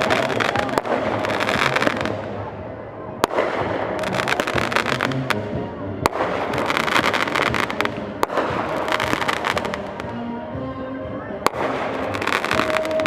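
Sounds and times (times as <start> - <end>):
firework bangs: 0.0 - 2.5, 3.2 - 10.1, 11.4 - 13.0
fireworks crackling: 0.0 - 10.2, 11.4 - 13.0.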